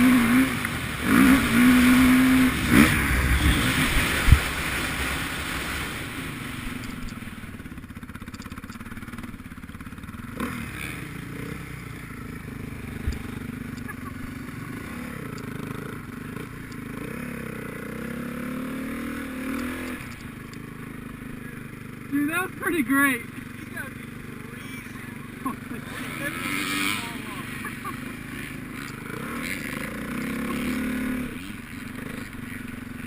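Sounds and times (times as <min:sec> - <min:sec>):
motocross bike engine: 0:00.0 - 0:33.0.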